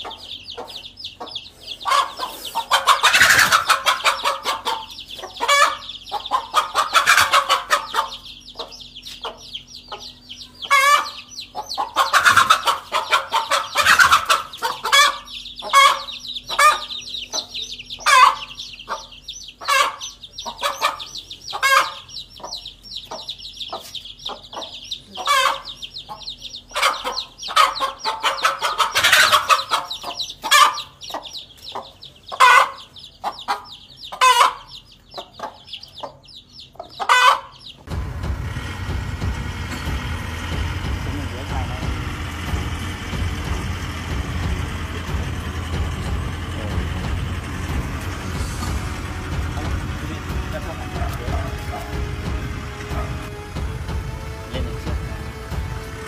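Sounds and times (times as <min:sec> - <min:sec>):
chick peeping: 0:00.0 - 0:56.0
hen clucking and squawking: 0:00.0 - 0:56.0.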